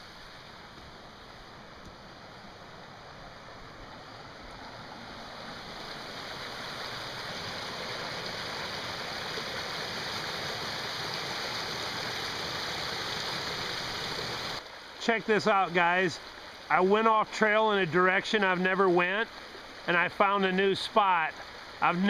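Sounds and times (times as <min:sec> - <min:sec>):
creek splashing over rocks: 0:00.0 - 0:22.0.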